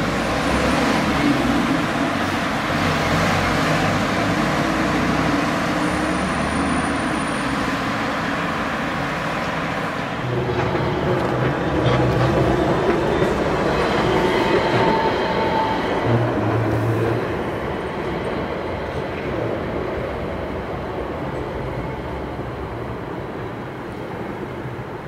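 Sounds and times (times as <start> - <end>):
cars and trams driving: 0.0 - 25.0.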